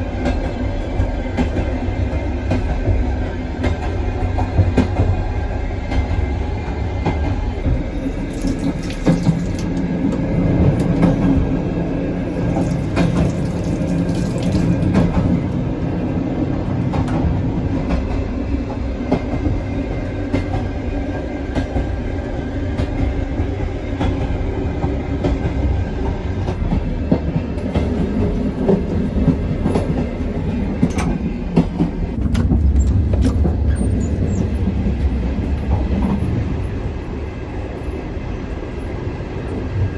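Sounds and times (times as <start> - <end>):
clicks and knocks from train wheels: 0.0 - 15.7, 16.5 - 22.0, 22.6 - 36.4
train rumbling: 0.0 - 39.9.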